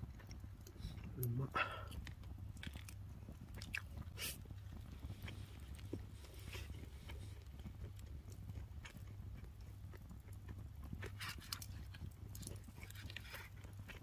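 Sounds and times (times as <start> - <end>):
low steady hum: 0.0 - 14.0
person chewing crunchy food: 0.0 - 14.0.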